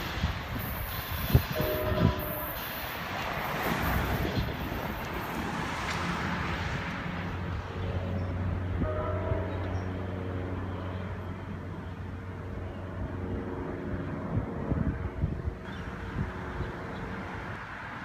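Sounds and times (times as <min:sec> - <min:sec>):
electric train humming: 0:00.0 - 0:18.0
train wheels rumbling on rails: 0:00.0 - 0:18.0.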